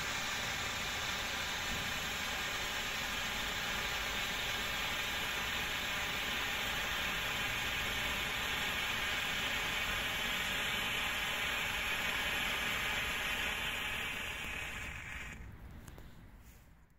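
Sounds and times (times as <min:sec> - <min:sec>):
hand flare hissing: 0:00.0 - 0:16.0.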